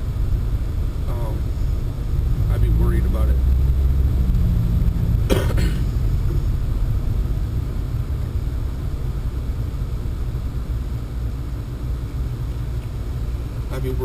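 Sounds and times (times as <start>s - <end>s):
car engine rumble from inside cabin: 0.0s - 14.0s
road noise: 0.0s - 14.0s.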